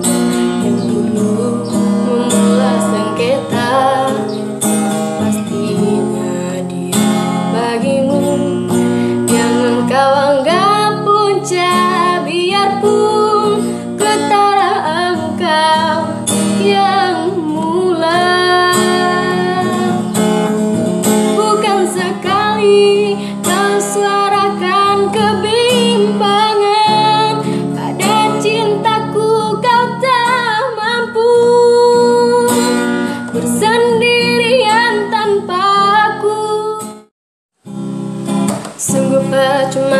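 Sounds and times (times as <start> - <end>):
woman singing slow song: 0.0 - 20.5, 21.2 - 37.1, 38.8 - 39.9
acoustic guitar: 0.0 - 39.9.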